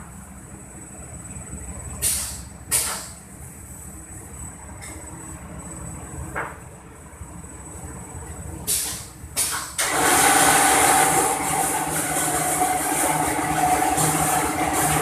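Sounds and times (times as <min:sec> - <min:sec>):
laminating machine hissing and humming: 0:00.0 - 0:15.0.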